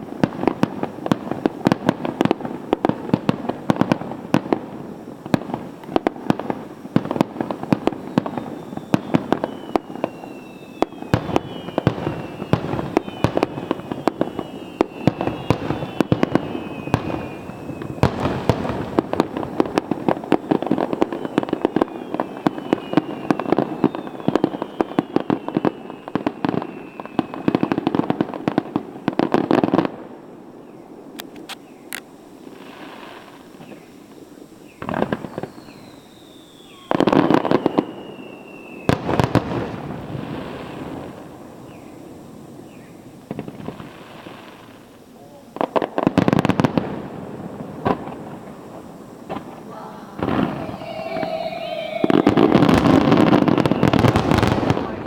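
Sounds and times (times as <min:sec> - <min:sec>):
fireworks cracks and bangs: 0:00.0 - 0:33.9, 0:34.7 - 0:55.0
falling firework whistles: 0:00.0 - 0:55.0.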